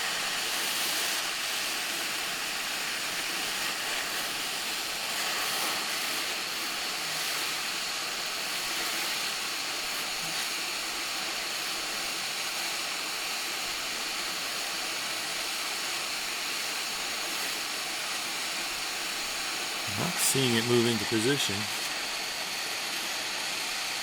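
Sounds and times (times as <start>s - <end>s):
hot-air station hissing: 0.0s - 24.0s.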